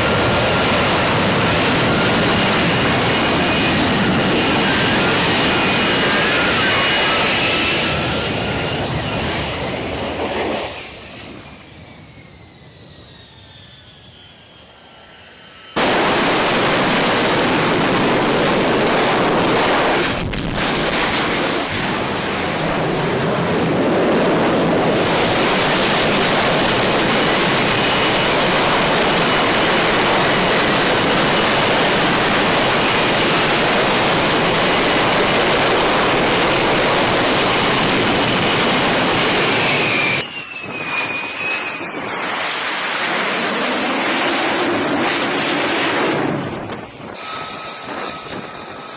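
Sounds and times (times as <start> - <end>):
jet passing with falling whine: 0.0 - 48.9
loud jet engine rush: 0.0 - 48.9.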